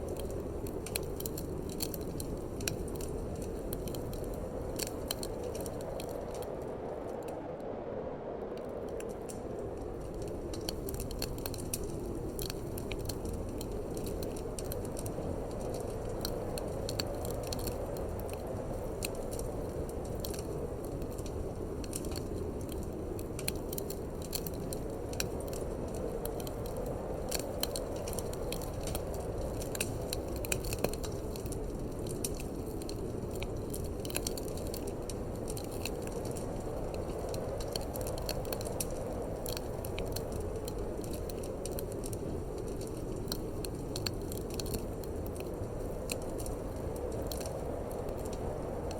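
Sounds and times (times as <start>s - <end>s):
low rush of wind: 0.0s - 48.9s
wood fire crackling: 0.0s - 48.9s.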